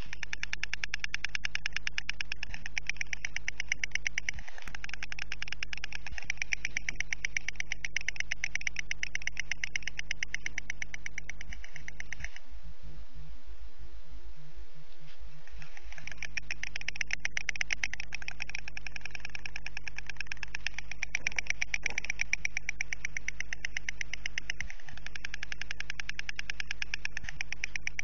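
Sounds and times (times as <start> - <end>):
storks bill-clattering: 0.0 - 12.5, 15.0 - 28.0.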